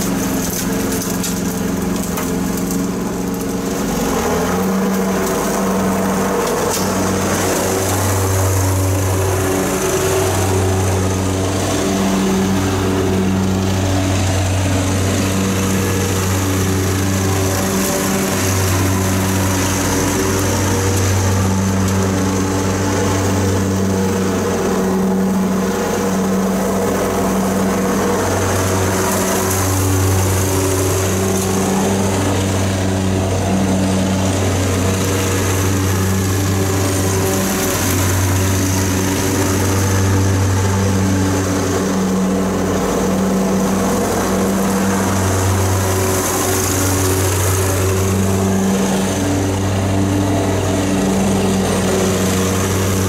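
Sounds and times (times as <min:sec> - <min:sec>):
riding mower engine running: 0:00.0 - 0:53.0.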